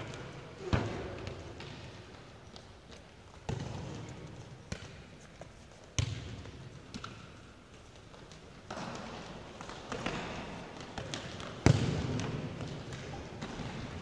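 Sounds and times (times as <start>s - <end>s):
ball thudding in echoing hall: 0.0s - 14.0s.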